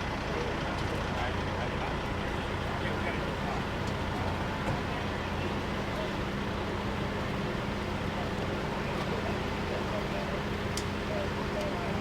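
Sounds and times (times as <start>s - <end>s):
street noise: 0.0s - 12.0s
vehicle engine idling: 0.0s - 12.0s.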